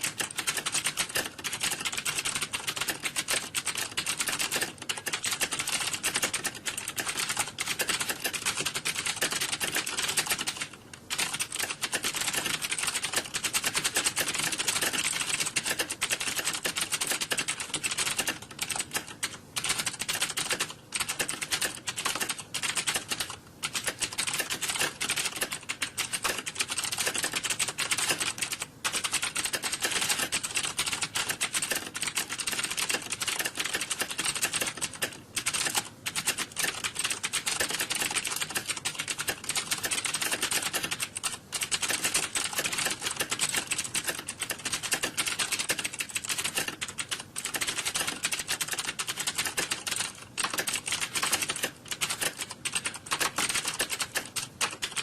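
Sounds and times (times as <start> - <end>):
fast typing on keyboard: 0.0 - 55.0.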